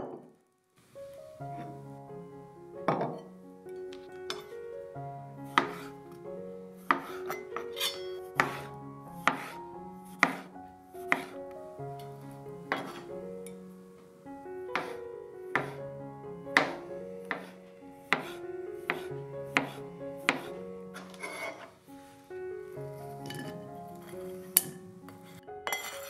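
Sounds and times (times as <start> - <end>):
light background music: 1.0 - 26.0.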